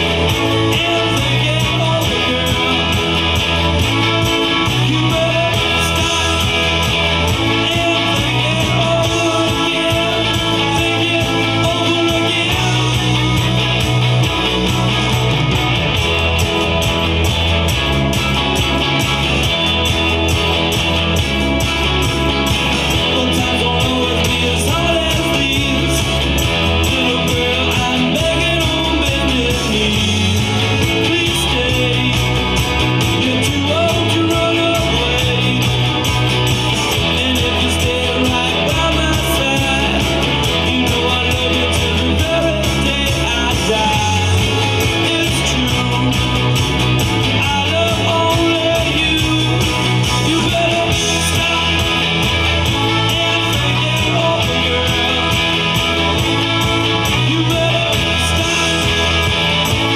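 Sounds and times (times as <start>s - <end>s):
rock song over loudspeaker: 0.0s - 59.9s.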